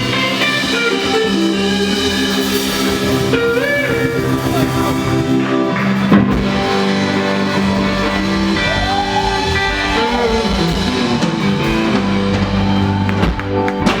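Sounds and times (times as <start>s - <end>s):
electric guitar: 0.0s - 14.0s
live rock band playing: 0.0s - 14.0s.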